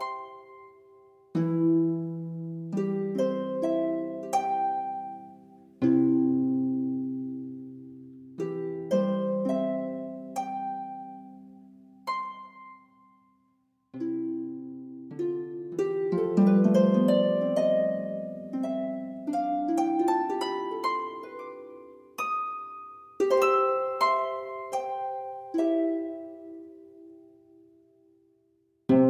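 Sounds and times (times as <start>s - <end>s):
harp music: 0.0s - 28.2s.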